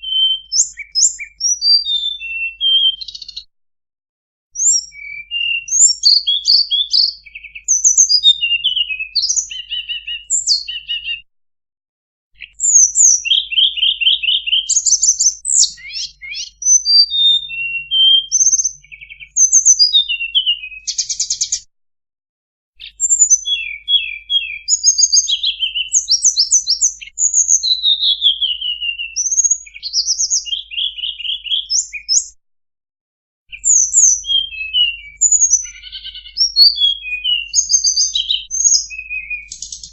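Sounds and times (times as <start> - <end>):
recorded birdsong chirps and trills: 0.0 - 3.5, 4.6 - 11.3, 12.4 - 21.7, 22.8 - 32.4, 33.5 - 39.9.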